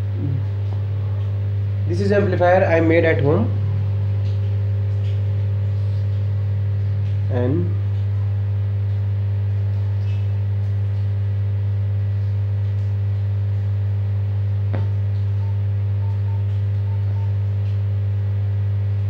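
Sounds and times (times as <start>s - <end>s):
amplifier mains hum: 0.0s - 19.0s.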